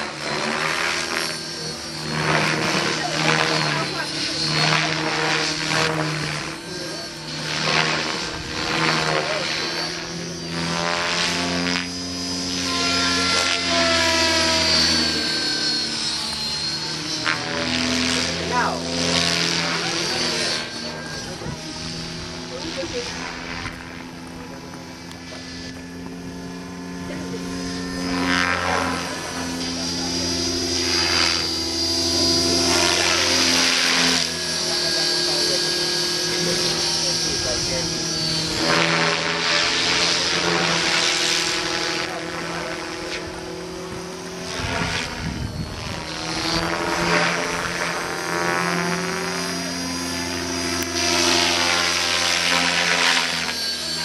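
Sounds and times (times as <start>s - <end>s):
rc helicopter motor and rotors: 0.0s - 54.0s.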